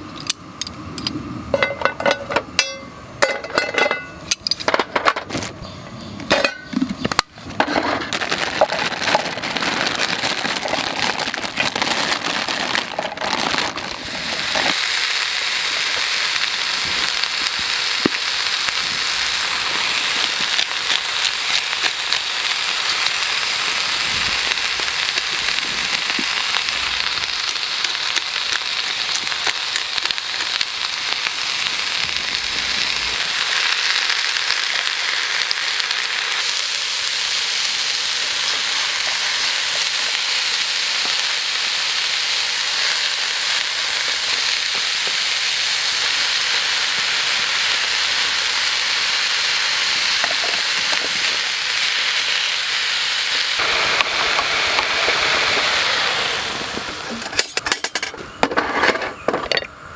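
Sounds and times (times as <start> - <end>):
vegetables sizzling in a pan: 5.5 - 58.1.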